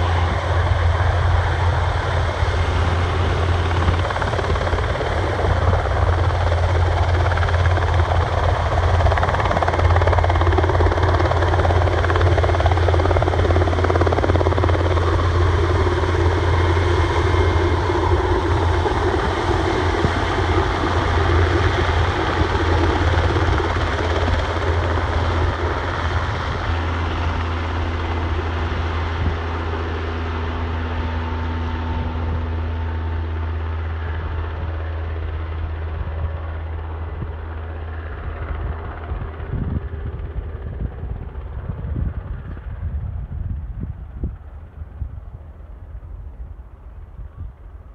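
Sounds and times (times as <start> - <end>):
helicopter rotor and engines: 0.0 - 47.9.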